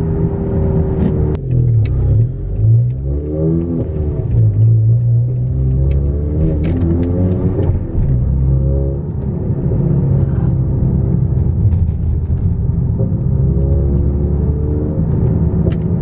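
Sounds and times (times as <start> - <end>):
loud car engine and exhaust revving: 0.0 - 16.0.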